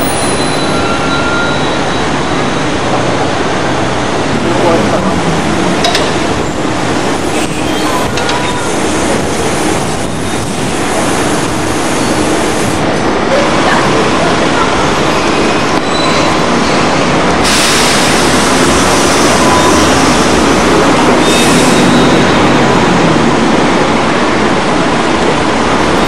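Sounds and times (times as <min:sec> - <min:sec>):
road noise: 0:00.0 - 0:26.0
trolleybus driving past: 0:00.0 - 0:26.0.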